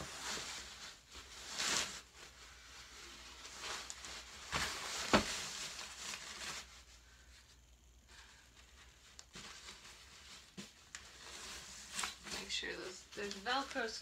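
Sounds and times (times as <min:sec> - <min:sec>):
fabric rustling: 0:00.0 - 0:14.0.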